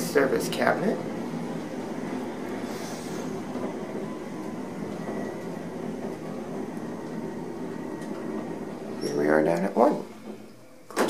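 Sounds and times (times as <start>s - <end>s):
elevator cab running noise: 0.0s - 11.0s.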